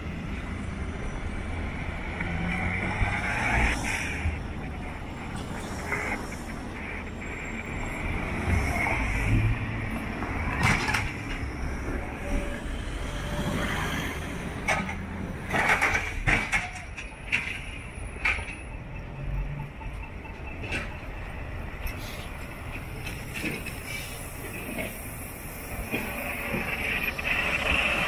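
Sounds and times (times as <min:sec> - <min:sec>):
city bus approaching: 0:00.0 - 0:28.0
street traffic: 0:00.0 - 0:28.0.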